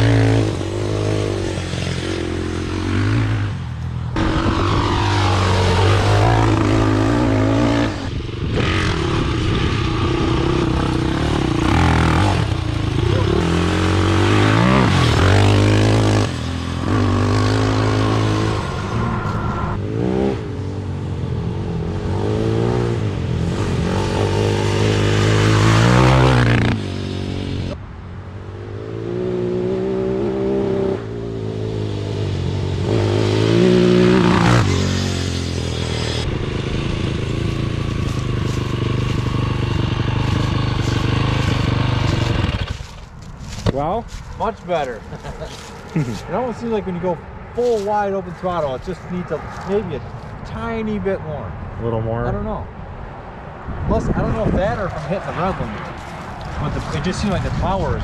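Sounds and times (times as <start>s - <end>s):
off-road engine revving: 0.0s - 3.6s, 4.2s - 27.8s, 28.6s - 52.5s, 53.9s - 58.0s.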